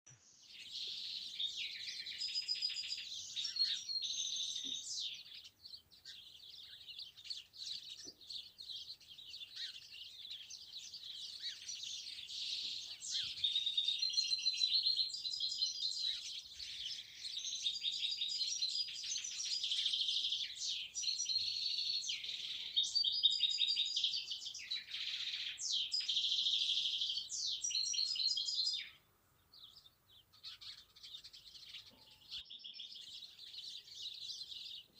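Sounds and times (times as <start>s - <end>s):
songbirds chirping and trilling: 0.1s - 34.9s.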